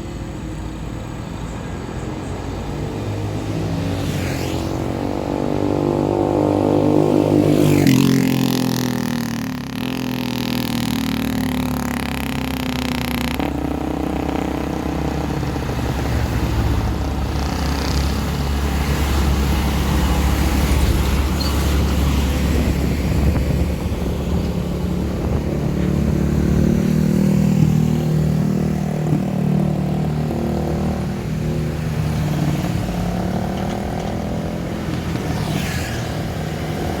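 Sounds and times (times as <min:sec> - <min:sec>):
heavy diesel engines under load: 0:00.0 - 0:37.0.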